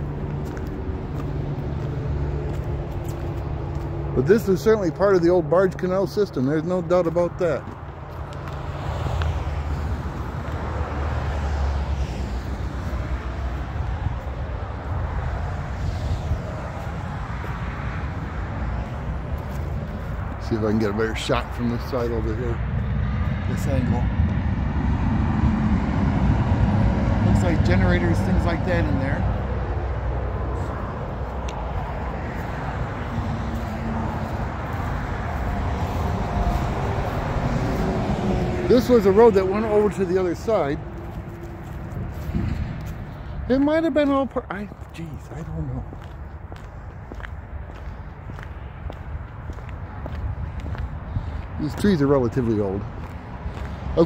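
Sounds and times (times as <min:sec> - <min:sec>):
highway traffic rumble: 0:00.0 - 0:54.0
wind buffeting microphone: 0:09.2 - 0:39.2, 0:39.8 - 0:54.0.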